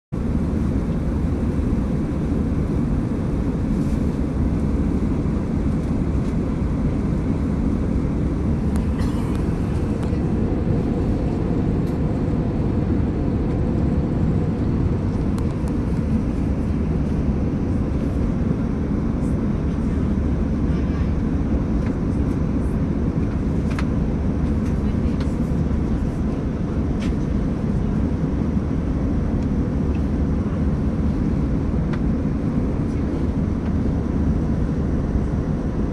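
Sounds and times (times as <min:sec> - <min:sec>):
airliner cabin engine drone: 0:00.2 - 0:35.9.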